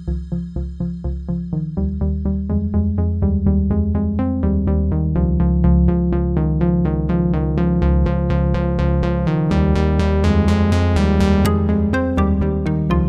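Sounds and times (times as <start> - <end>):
repeated synthesizer notes: 0.0 - 13.0
steady bass line: 0.0 - 13.0.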